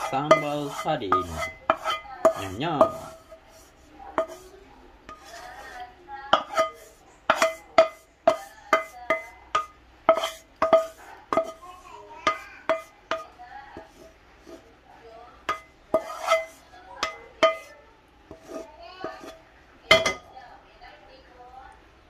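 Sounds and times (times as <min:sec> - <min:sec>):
spatula knocking on metal pan: 0:00.0 - 0:03.4, 0:04.2 - 0:04.5, 0:05.1 - 0:11.6, 0:12.2 - 0:14.6, 0:15.4 - 0:20.4.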